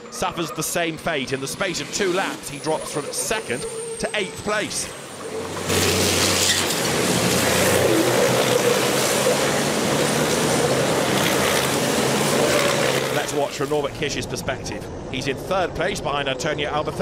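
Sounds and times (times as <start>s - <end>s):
race trucks driving past: 0.0s - 17.0s.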